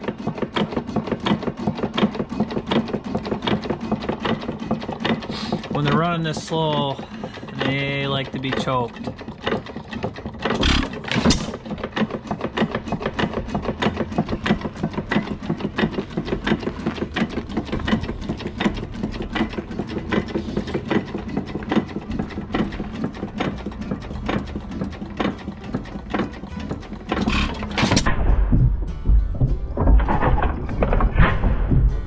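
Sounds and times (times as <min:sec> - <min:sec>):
engine knocks: 0:00.0 - 0:32.0
hit-and-miss engine clattering: 0:00.0 - 0:32.0.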